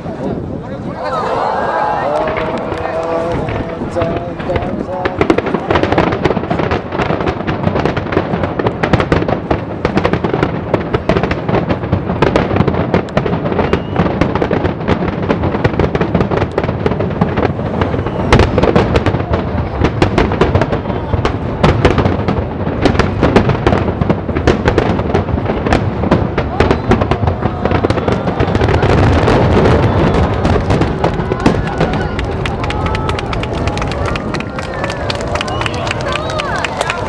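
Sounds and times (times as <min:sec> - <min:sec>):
firework crackling: 0:01.4 - 0:37.0
firework bursts and booms: 0:01.8 - 0:37.0.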